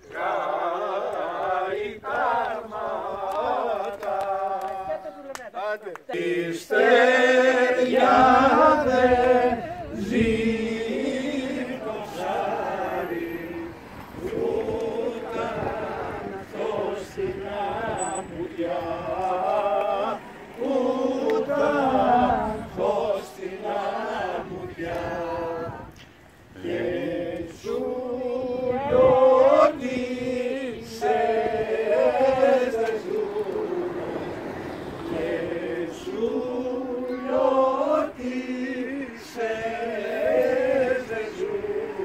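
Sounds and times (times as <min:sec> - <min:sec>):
group singing unaccompanied: 0:00.0 - 0:42.0.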